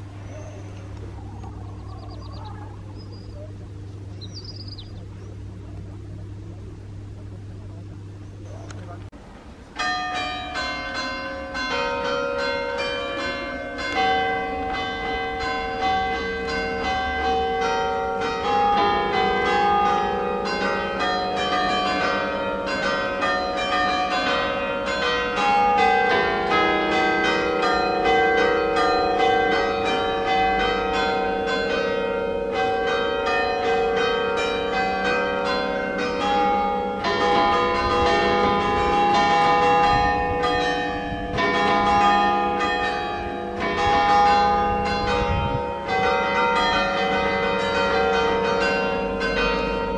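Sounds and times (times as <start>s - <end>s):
church bells pealing: 0.0s - 49.9s.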